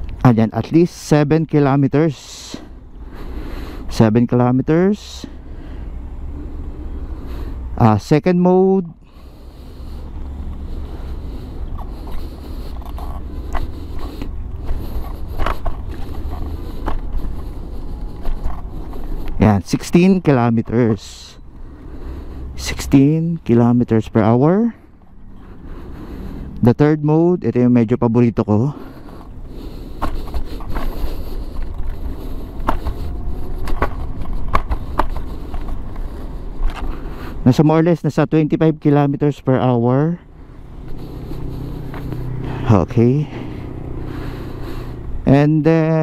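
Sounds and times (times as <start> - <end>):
wind and road rumble: 0.0 - 46.0.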